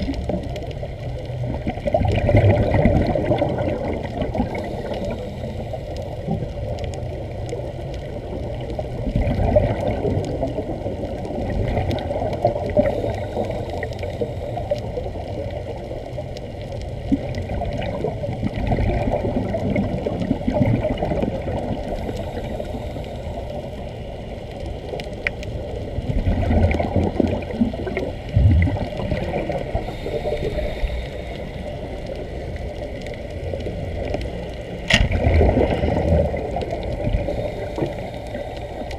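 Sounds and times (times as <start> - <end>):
faint clicks: 0.0 - 38.9
underwater air bubbling: 0.0 - 38.9.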